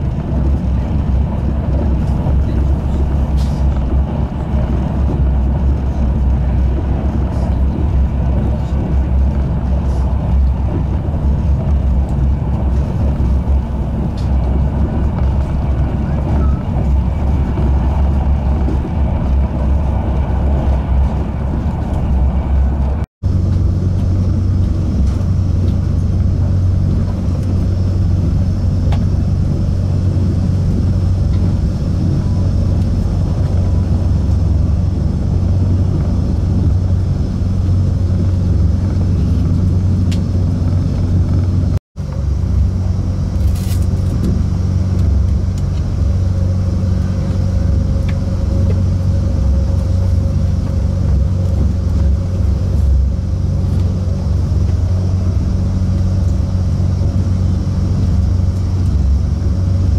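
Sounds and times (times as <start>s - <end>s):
electric train running rumble: 0.0s - 59.9s.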